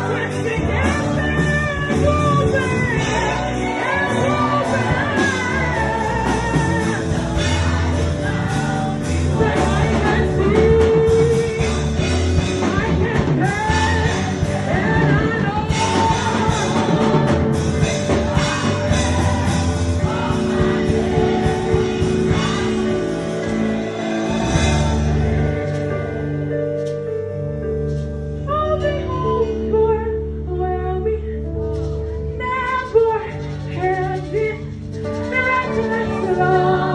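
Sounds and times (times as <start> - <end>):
people singing worship song: 0.0 - 27.1, 32.8 - 36.9
band accompaniment: 0.0 - 29.8, 31.5 - 36.9.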